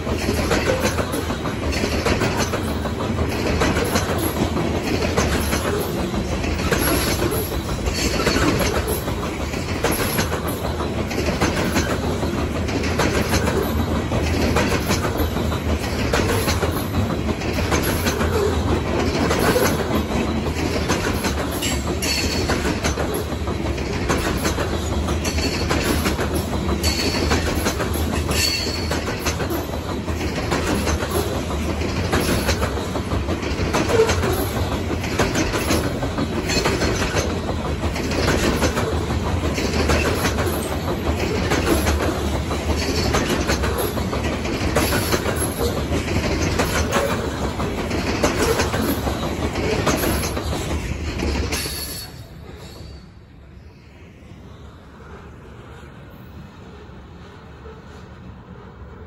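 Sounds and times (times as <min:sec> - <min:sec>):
wheels clicking over rail joints: 0:00.0 - 0:52.7
freight train rumbling: 0:00.0 - 0:59.0.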